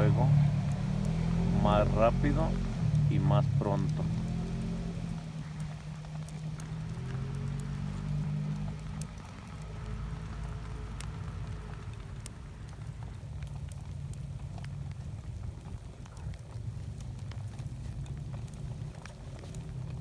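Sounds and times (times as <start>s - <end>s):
campfire crackling: 0.0s - 20.0s
rain drips: 0.0s - 20.0s.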